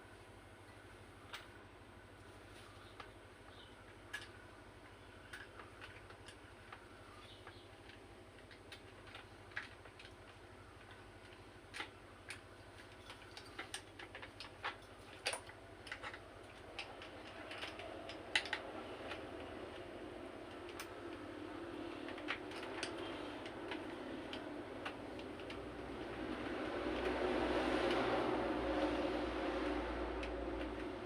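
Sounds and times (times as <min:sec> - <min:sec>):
small hard parts clicking: 0:02.8 - 0:31.0.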